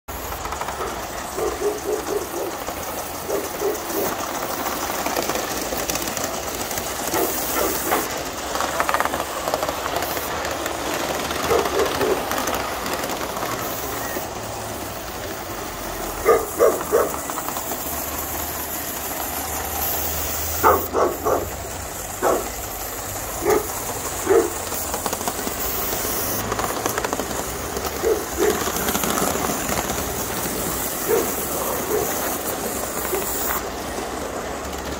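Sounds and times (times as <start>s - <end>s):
model train wheels clicking: 0.1s - 34.9s
steam hissing: 0.1s - 34.9s.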